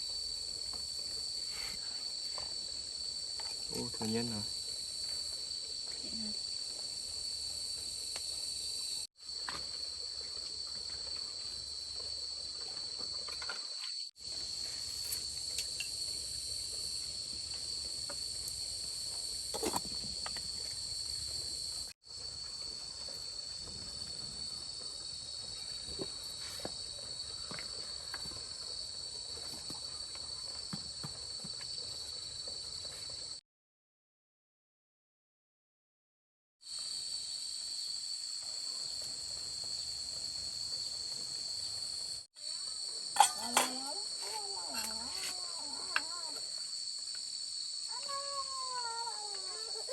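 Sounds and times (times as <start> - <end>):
insect chorus trilling: 0.0 - 33.2, 36.7 - 49.9.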